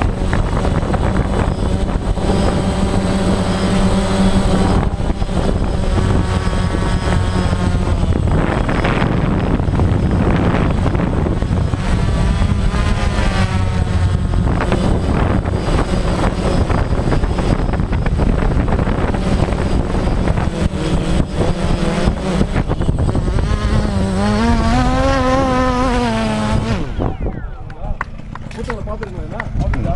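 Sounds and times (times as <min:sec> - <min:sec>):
wavering pitched sound: 0:00.0 - 0:28.0
helicopter rotor and engine drone: 0:00.0 - 0:29.9
wind buffeting microphone: 0:00.0 - 0:29.9.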